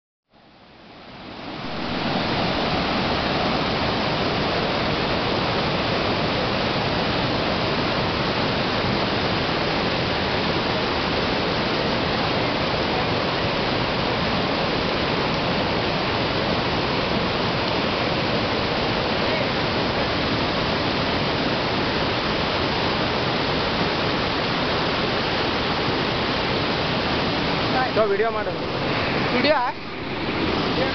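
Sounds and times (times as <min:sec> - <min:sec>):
river rapids rushing: 0:00.4 - 0:30.9.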